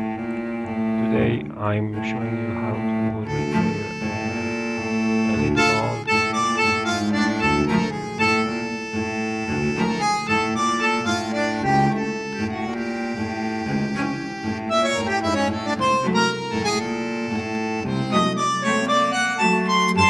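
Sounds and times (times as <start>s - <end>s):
reedy melody over steady bass: 0.0s - 20.0s.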